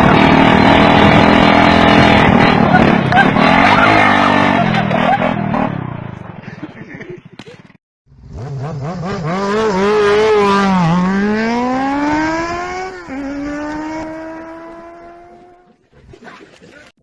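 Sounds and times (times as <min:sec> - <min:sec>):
motorcycle engine revving: 0:00.0 - 0:06.2, 0:08.1 - 0:15.7.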